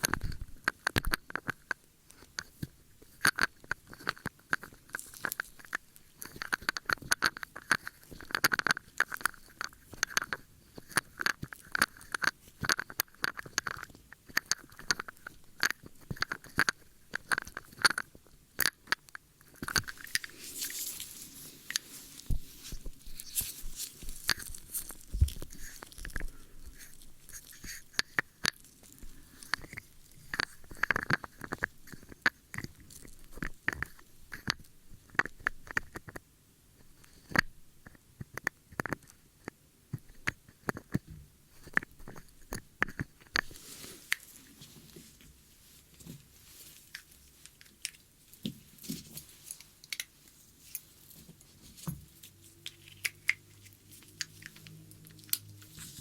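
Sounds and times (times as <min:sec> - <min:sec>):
small clicks and crackles: 0:00.0 - 0:56.0.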